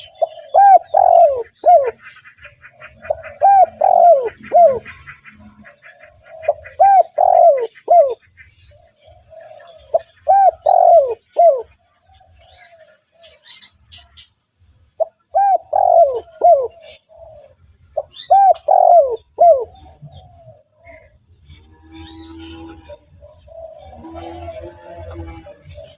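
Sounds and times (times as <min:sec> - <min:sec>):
dove cooing: 0:00.0 - 0:13.8, 0:15.0 - 0:25.9
small birds chirping: 0:00.0 - 0:25.9.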